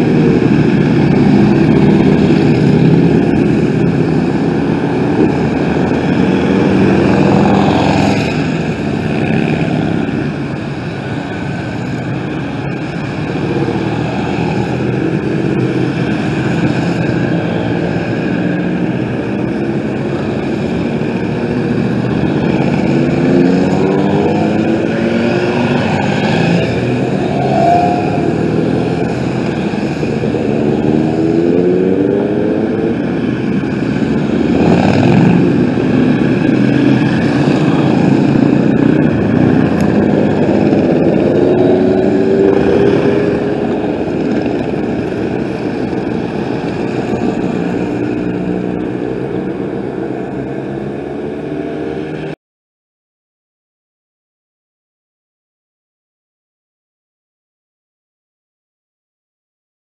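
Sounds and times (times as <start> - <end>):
motorcycles riding past: 0.0 - 52.4.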